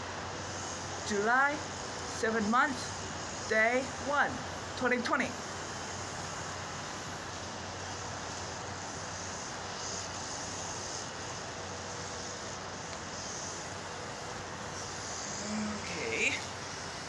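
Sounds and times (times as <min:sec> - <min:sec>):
distant traffic hum: 0:00.0 - 0:17.0.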